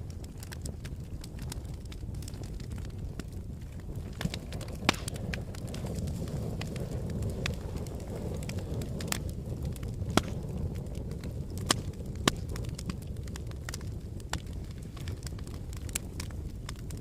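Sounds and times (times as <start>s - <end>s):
fire crackling: 0.0s - 17.0s
fire rumbling: 0.0s - 17.0s
wood fire popping: 0.0s - 17.0s.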